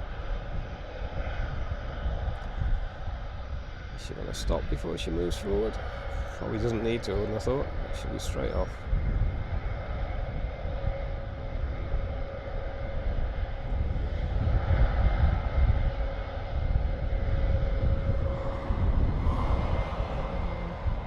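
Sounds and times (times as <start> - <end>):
turboprop engines humming: 0.0 - 21.0.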